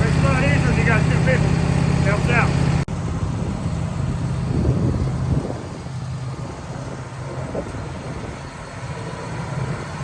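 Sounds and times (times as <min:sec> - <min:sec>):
band sawmill engine droning: 0:00.0 - 0:10.0.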